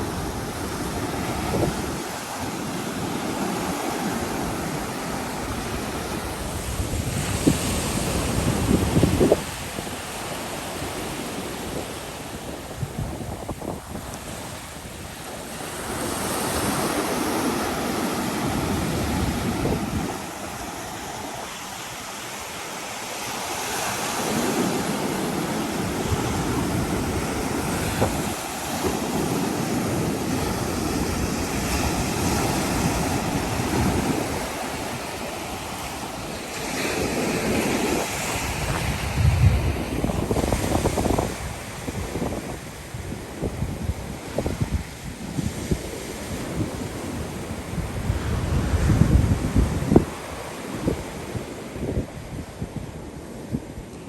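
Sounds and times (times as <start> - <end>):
wind buffeting microphone: 0.0 - 22.3, 24.1 - 53.9
surf washing onto beach: 0.0 - 54.0.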